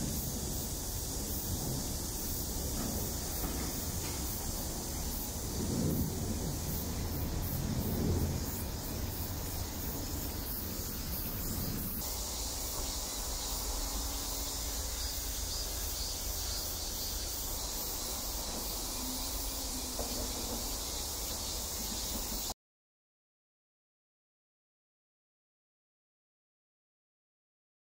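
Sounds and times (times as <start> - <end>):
high-pitched insect chorus: 0.0 - 22.6.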